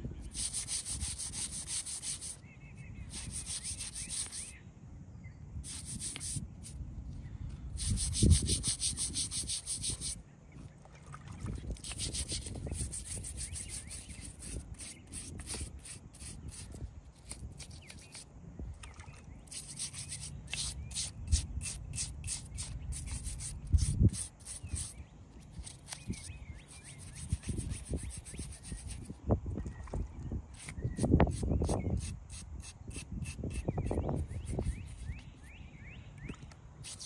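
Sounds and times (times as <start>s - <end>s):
hand rubbing against stone: 0.2s - 4.6s, 5.6s - 6.8s, 7.6s - 10.2s, 11.6s - 18.3s, 19.5s - 29.2s, 30.5s - 35.6s.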